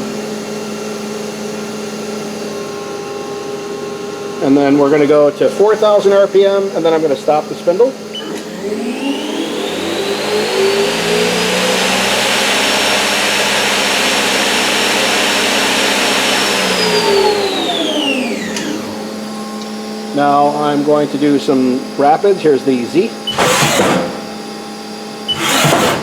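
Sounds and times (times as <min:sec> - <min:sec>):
lathe spindle whine: 0:00.9 - 0:26.0.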